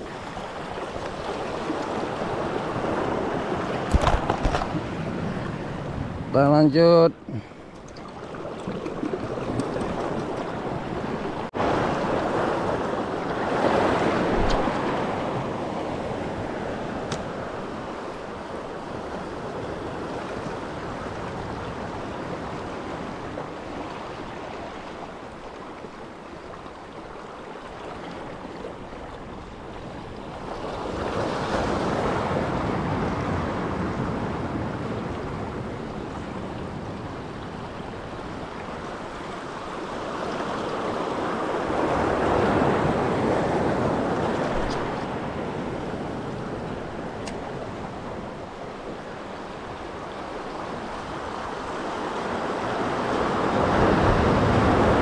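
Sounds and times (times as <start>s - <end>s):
sea water lapping around rocks: 0.0s - 6.3s, 7.3s - 55.0s.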